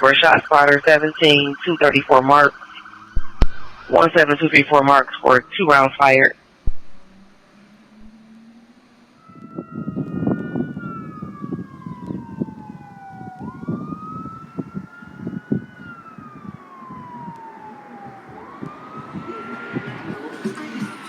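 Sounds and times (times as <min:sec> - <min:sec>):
fire engine siren wailing: 0:00.0 - 0:06.3, 0:07.0 - 0:21.0.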